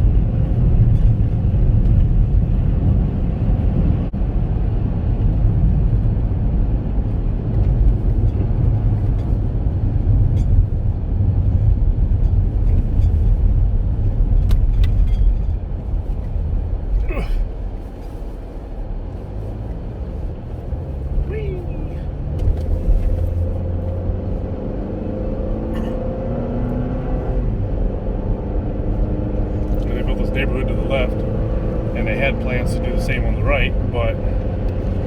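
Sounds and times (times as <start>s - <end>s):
car driving rumble from inside: 0.0s - 35.0s.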